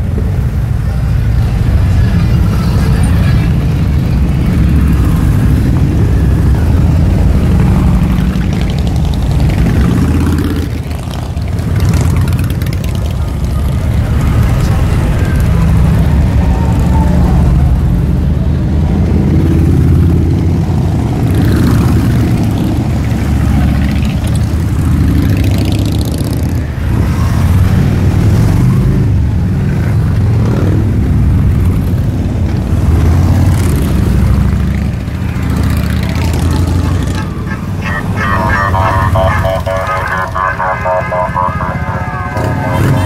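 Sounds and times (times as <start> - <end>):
motorcycles riding past: 0.5 - 17.8, 19.1 - 43.0.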